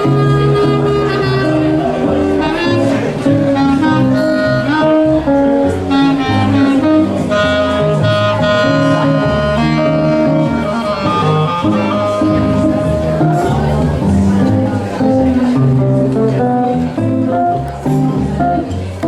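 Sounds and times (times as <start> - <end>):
held melody notes: 0.0 - 19.0
moving bass line: 0.0 - 19.0.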